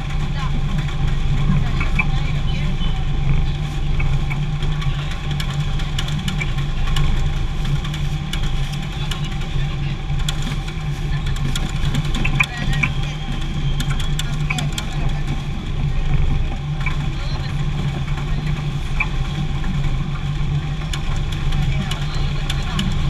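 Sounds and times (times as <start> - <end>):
conveyor machinery hum: 0.0 - 23.0.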